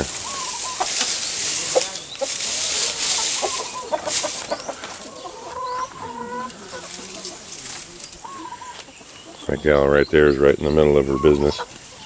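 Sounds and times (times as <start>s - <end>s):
straw rustling: 0.0s - 9.7s
hens clucking: 0.0s - 12.0s.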